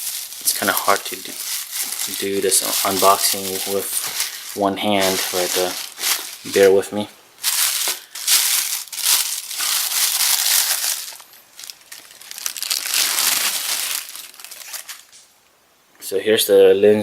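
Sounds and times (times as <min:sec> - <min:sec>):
packaging crinkling and rustling: 0:00.0 - 0:15.3.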